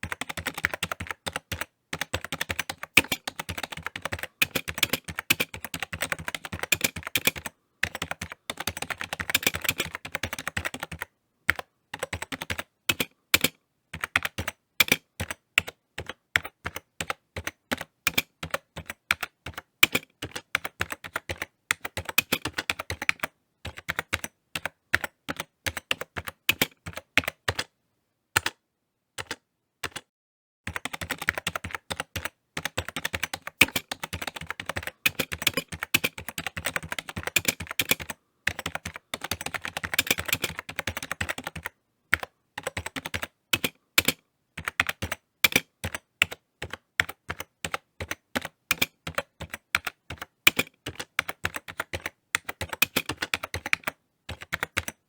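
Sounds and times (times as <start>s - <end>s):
keyboard typing: 0.0s - 27.7s, 29.2s - 30.1s, 30.7s - 55.0s.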